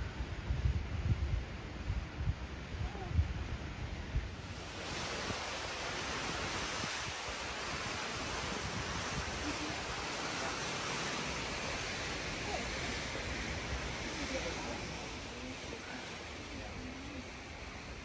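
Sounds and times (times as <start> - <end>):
wind buffeting microphone: 0.0 - 18.0
wind rushing: 2.2 - 18.0.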